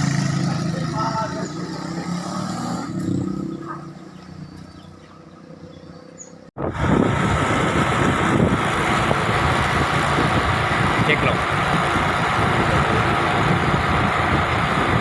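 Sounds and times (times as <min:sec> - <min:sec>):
motor vehicle running: 0:00.0 - 0:15.0
ragged rumble of vehicle and wind: 0:00.0 - 0:15.0.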